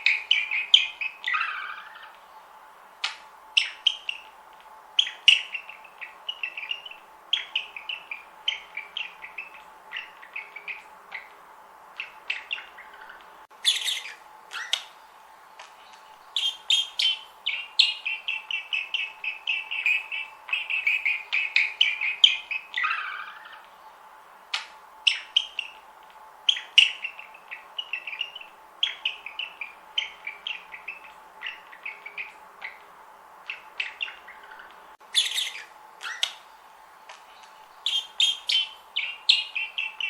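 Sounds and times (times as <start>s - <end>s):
budgerigars chirping: 0.0s - 4.4s, 5.0s - 15.1s, 15.8s - 40.0s.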